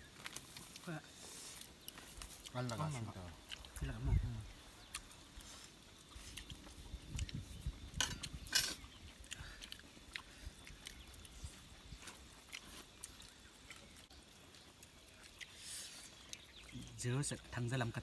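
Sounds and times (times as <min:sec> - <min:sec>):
chewing and smacking: 0:00.1 - 0:00.9, 0:01.5 - 0:17.0.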